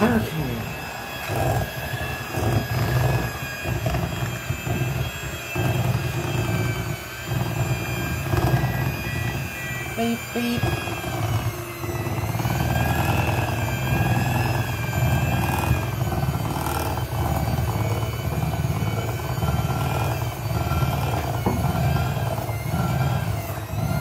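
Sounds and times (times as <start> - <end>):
electric hand mixer whirring: 0.0 - 24.0.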